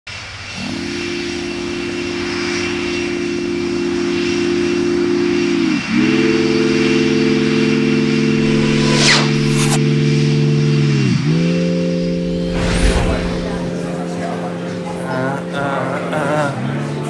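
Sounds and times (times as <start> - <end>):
synthesizer drone: 0.6 - 17.0.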